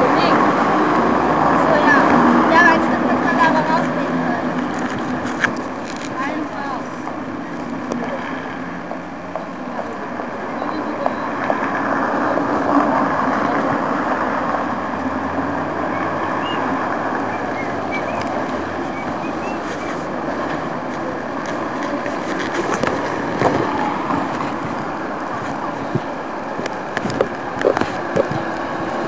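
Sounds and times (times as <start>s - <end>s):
moving vehicle running noise: 0.0s - 29.0s.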